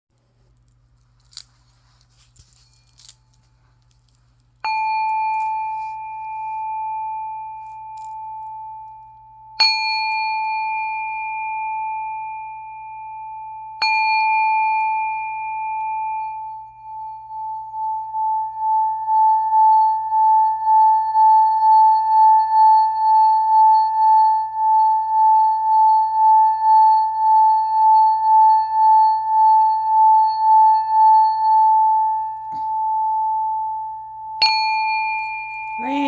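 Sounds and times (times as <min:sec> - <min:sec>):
singing bowl ringing: 0:04.6 - 0:36.0.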